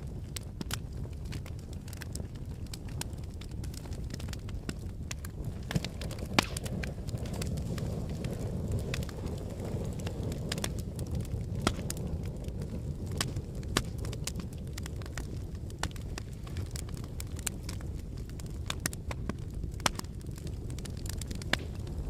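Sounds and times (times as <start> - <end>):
sharp cracks and pops: 0.0 - 22.0.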